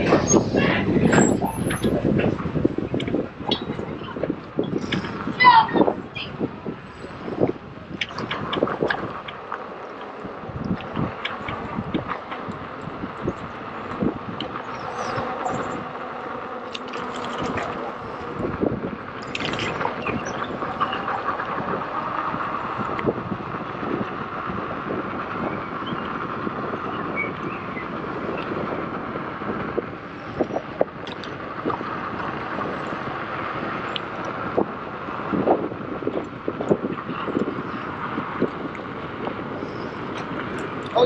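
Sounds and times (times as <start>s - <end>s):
wind on microphone: 0.0s - 41.0s.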